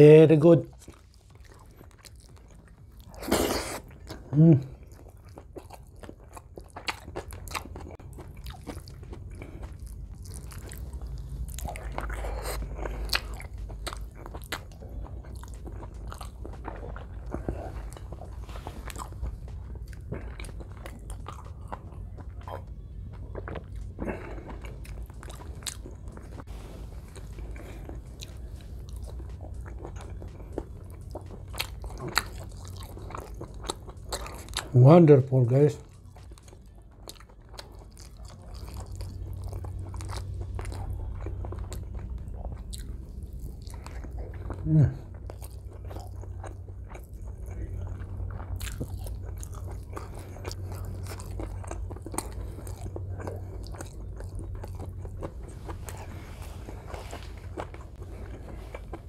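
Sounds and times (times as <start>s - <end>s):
man chewing food: 0.6s - 59.0s.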